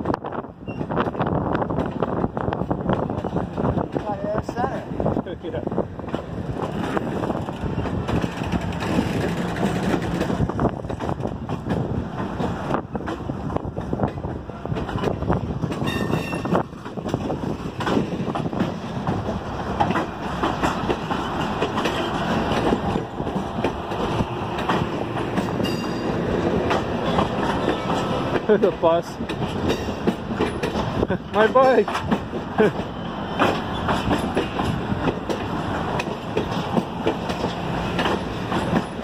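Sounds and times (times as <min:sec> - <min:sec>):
train wheels clacking over rails: 0:00.0 - 0:39.0.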